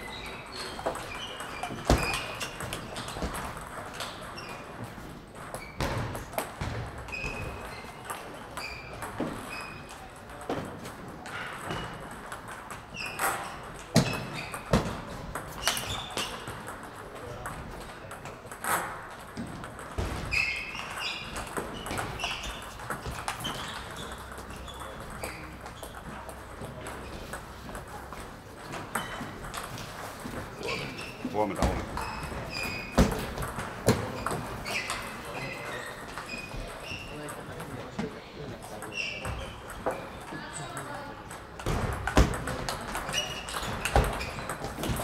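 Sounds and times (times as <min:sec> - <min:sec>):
table tennis balls clicking: 0:00.0 - 0:45.0.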